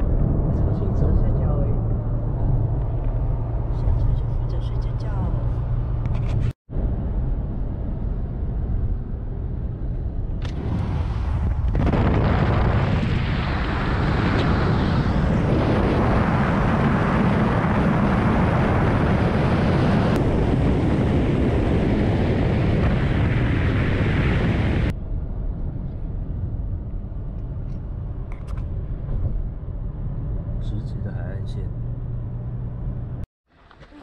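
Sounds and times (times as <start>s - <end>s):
car driving on road: 0.0s - 11.8s, 13.4s - 34.0s.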